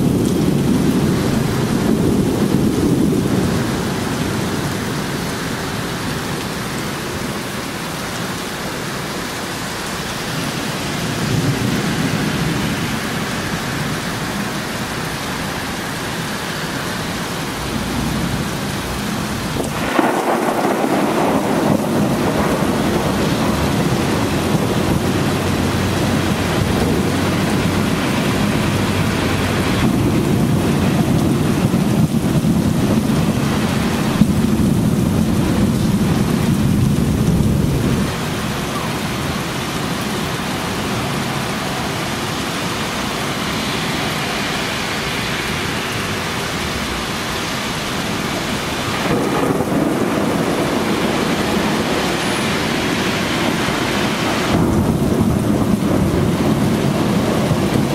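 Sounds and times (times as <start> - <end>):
rolling thunder: 0.0 - 7.4, 9.7 - 15.7, 17.0 - 45.3, 48.0 - 57.9
heavy rain pouring: 0.0 - 57.9.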